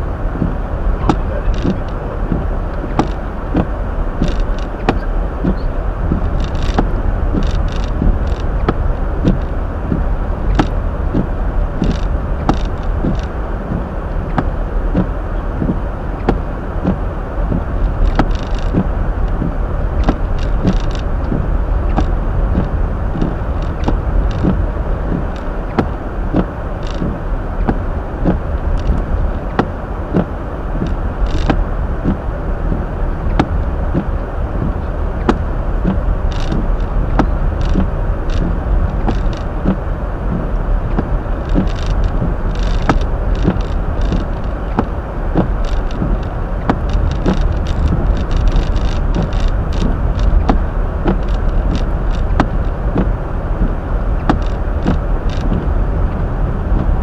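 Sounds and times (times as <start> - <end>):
low rumble of tyres and engine: 0.0 - 57.0
small irregular clicks and knocks: 0.4 - 57.0.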